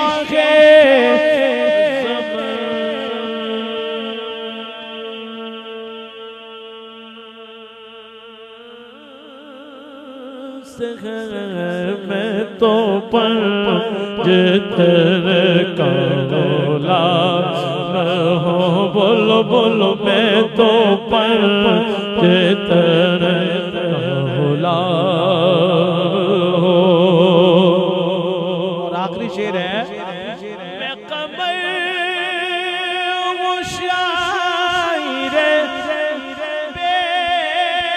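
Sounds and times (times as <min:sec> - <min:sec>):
man singing into microphone: 0:00.0 - 0:37.9.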